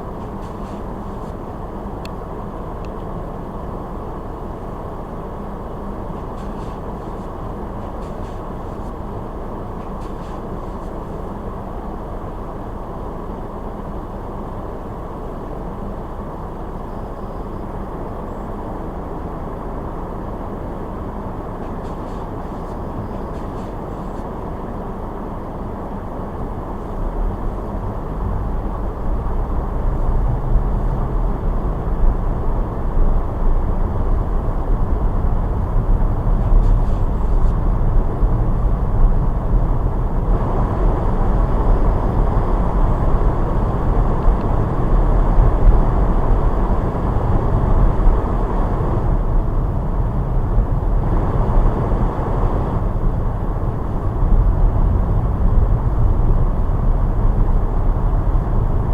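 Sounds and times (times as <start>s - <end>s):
car tyre and road noise: 0.0s - 58.9s.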